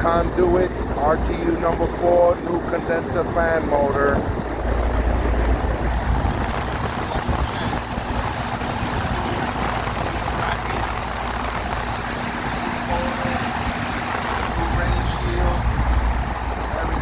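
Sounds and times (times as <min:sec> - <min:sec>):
faint constant hum: 0:00.0 - 0:17.0
fan air rushing: 0:00.0 - 0:17.0
low rumble: 0:00.0 - 0:17.0.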